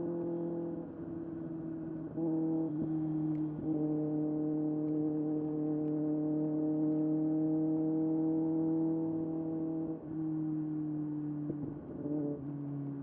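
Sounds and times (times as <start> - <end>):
motorcycle engine at high revs: 2.0 - 13.0.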